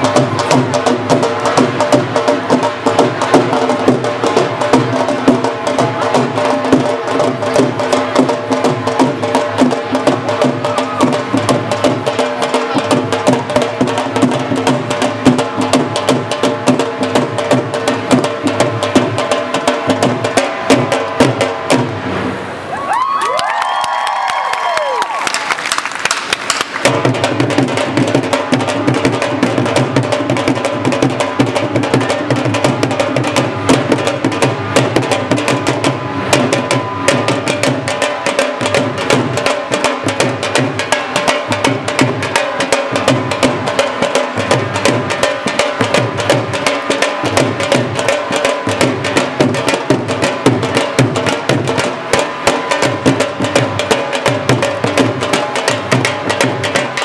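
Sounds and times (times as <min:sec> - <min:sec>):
drums beaten with sticks: 0:00.0 - 0:22.2, 0:26.4 - 0:57.0.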